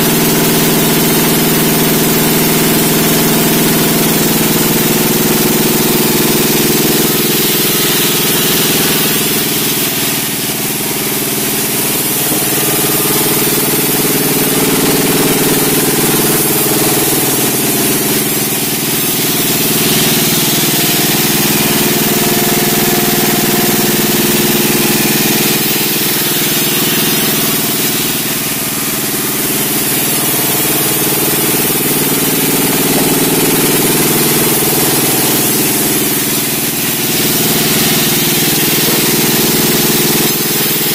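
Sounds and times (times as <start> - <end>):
saw hissing through log: 0.0 - 40.9
sawmill engine droning: 0.0 - 40.9.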